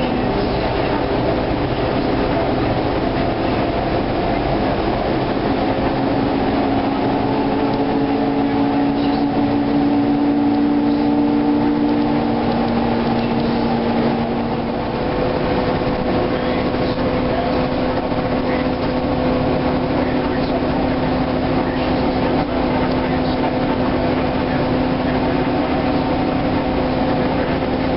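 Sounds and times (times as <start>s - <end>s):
bus engine drone with whine: 0.0s - 27.9s
road noise: 0.0s - 27.9s.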